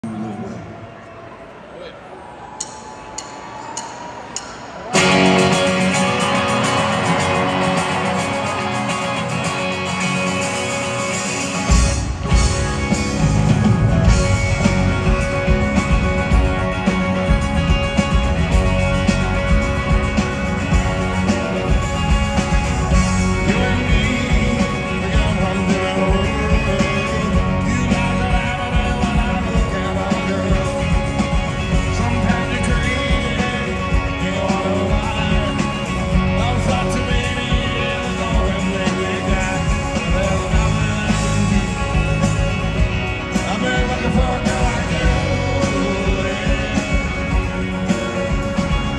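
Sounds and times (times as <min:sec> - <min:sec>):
crowd murmur: 0:00.0 - 0:48.9
rock band playing: 0:02.6 - 0:48.9.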